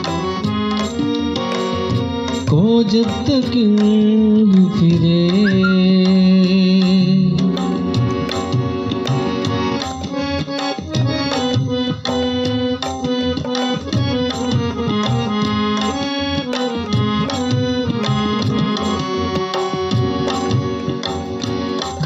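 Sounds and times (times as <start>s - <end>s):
reed keyboard melody: 0.0s - 22.0s
tabla rhythm: 0.0s - 22.0s.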